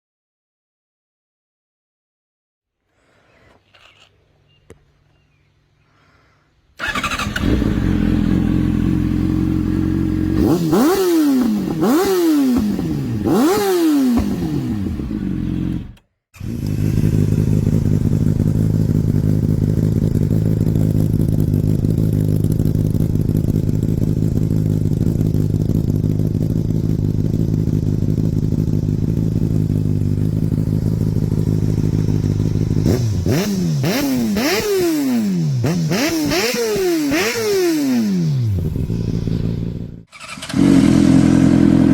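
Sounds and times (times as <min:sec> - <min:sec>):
motorcycle engine idling and revving: 0:06.8 - 0:41.9
motorcycle idling with throttle blip: 0:06.8 - 0:41.9.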